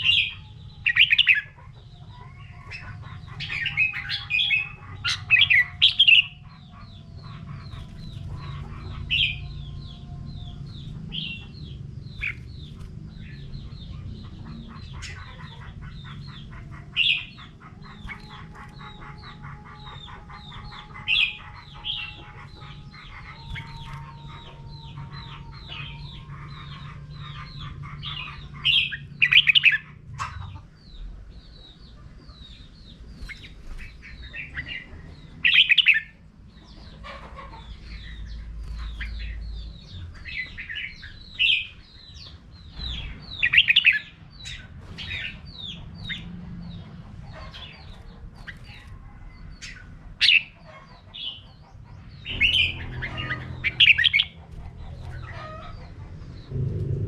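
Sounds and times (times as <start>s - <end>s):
bird chirping: 0.0s - 57.0s
bird warbling song: 0.0s - 57.0s.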